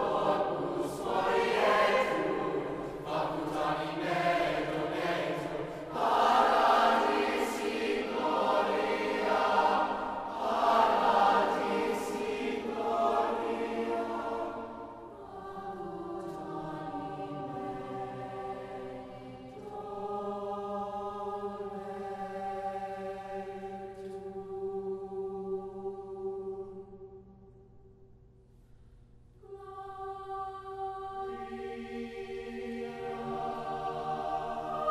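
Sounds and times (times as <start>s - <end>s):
choir singing: 0.0s - 27.2s, 29.4s - 34.9s.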